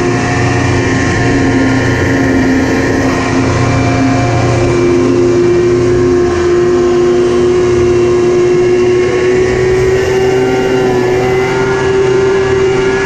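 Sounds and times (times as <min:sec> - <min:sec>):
snowmobile engine at high revs: 0:00.0 - 0:13.0.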